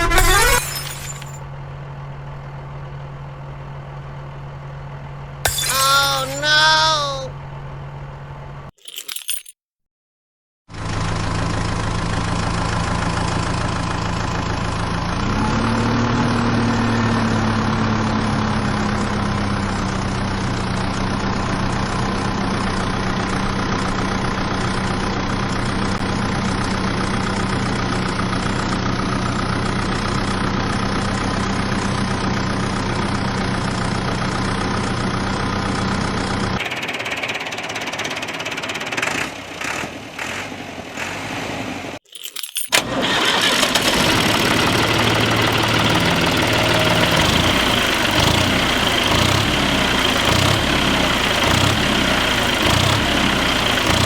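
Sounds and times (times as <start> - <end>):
tractor engine idling and revving: 0.0 - 5.5, 10.7 - 54.0.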